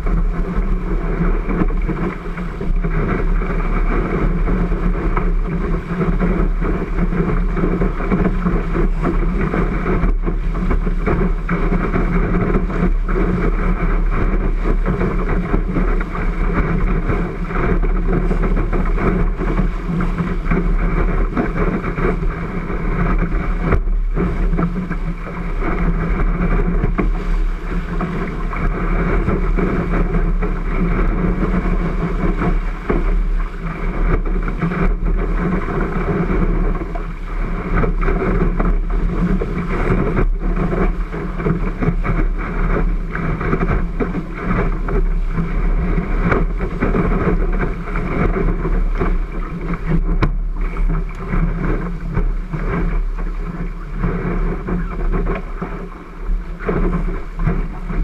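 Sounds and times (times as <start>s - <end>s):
water rushing along a hull: 0.0s - 58.0s
wind buffeting microphone: 0.0s - 58.0s.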